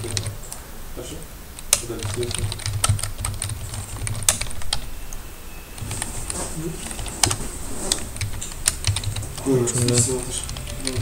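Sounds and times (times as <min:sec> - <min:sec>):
computer keyboard typing: 0:00.0 - 0:00.6, 0:01.6 - 0:04.9, 0:05.8 - 0:11.0
low steady hum: 0:00.0 - 0:11.0.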